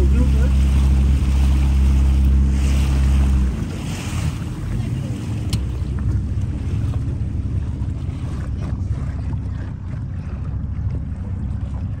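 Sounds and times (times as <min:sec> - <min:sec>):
water washing under a boat: 0:00.0 - 0:12.0.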